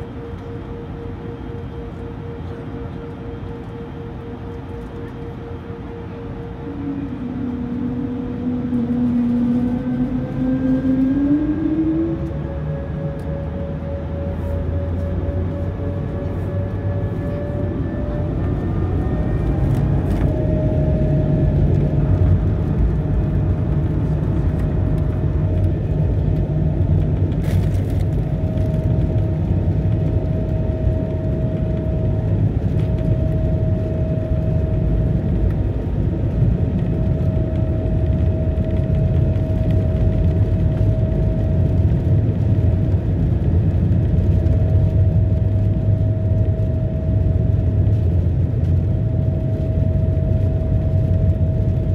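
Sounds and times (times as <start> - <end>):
jet engine rumble and whine: 0.0 - 51.9.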